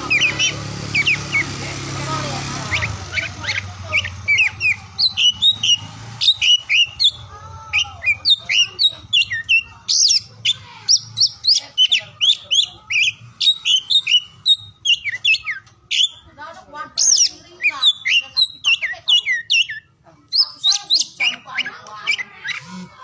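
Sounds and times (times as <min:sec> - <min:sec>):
bird singing whistled notes: 0:00.0 - 0:01.6, 0:02.6 - 0:16.3, 0:17.0 - 0:22.9.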